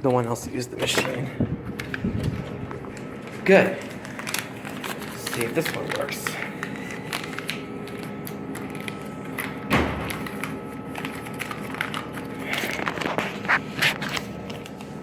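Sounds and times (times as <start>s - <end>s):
vending machine hum: 0.0s - 15.0s.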